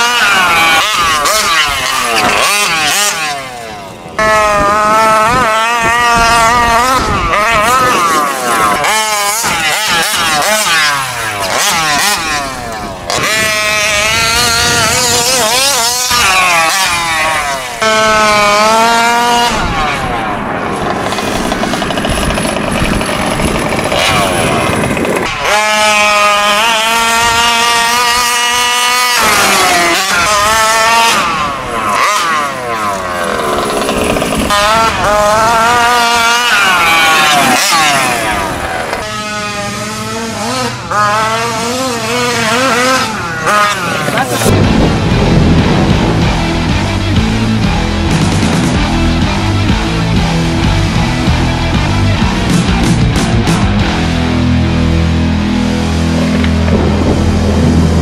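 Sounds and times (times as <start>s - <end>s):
rc truck engine revving: 0.0s - 58.0s.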